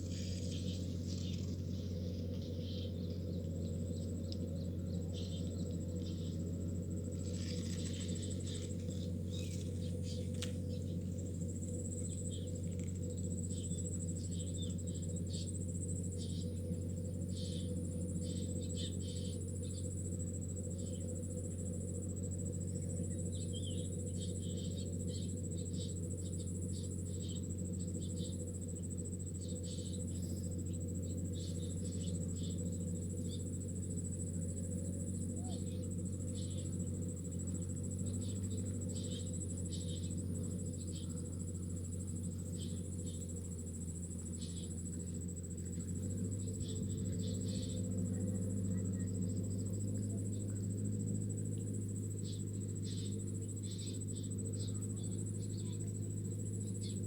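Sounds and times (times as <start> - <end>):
crickets trilling: 0.0 - 57.0
steady low hum: 0.0 - 57.0.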